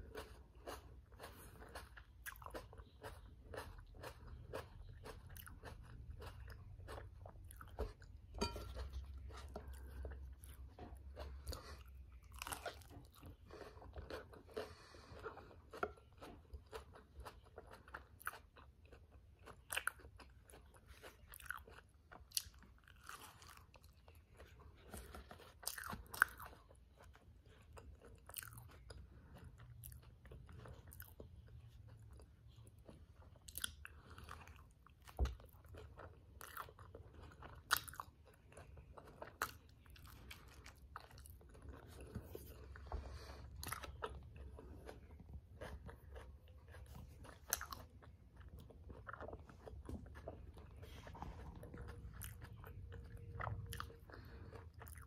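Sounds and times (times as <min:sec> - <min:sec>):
crunching while eating: 0:00.0 - 0:55.0
wet chewing: 0:00.0 - 0:55.0.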